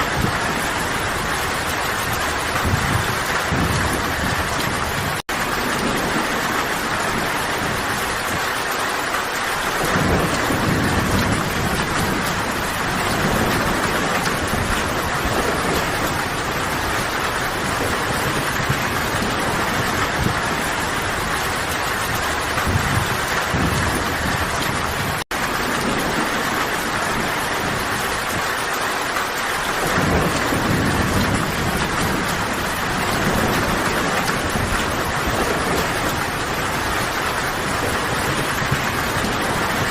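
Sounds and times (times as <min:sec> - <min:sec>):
loud rain falling: 0:00.0 - 0:39.9
rumbling thunder: 0:00.0 - 0:39.9.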